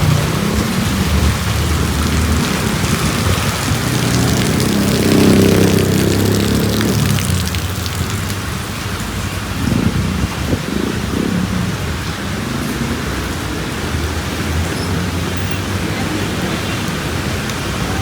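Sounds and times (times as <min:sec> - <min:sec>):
heavy rain hissing: 0:00.0 - 0:18.0
wind rumbling: 0:00.0 - 0:18.0.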